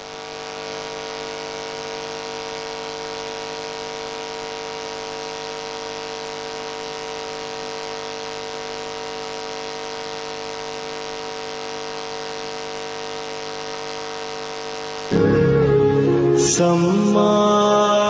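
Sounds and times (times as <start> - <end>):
electrical buzz and hum: 0.0 - 17.6.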